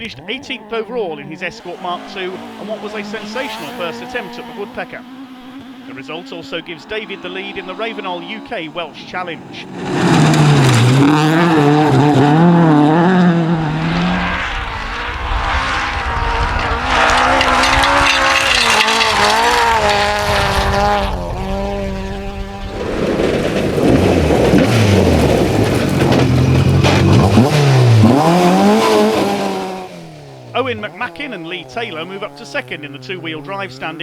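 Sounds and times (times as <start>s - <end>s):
rally car engine revving: 0.0s - 34.0s
tyre and road noise: 1.0s - 34.0s.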